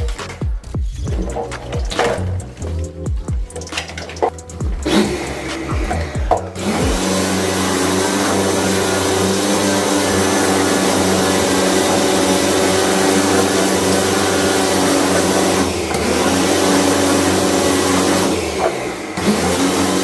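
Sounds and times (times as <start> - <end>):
electric motor machine running: 1.1 - 20.0.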